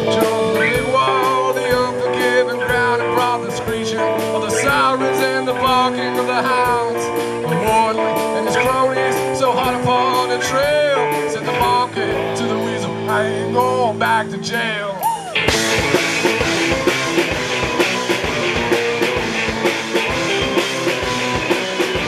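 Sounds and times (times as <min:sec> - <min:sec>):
amplified guitars: 0:00.0 - 0:22.0
drum kit beat: 0:00.0 - 0:22.0
lead guitar bending notes: 0:00.0 - 0:22.0.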